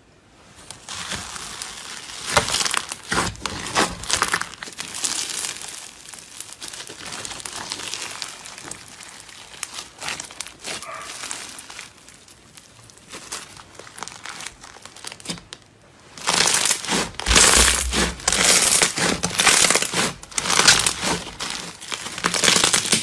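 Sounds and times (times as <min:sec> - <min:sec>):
slime crackling and popping: 0:00.6 - 0:23.0.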